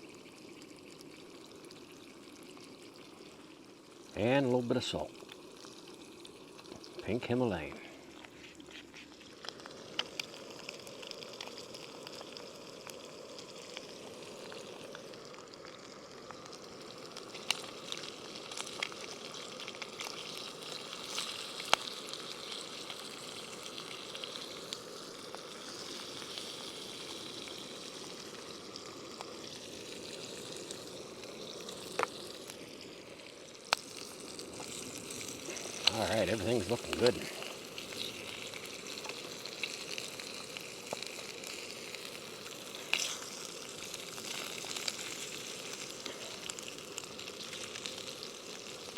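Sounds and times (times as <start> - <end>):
eggs sizzling in a pan: 0.0 - 48.9.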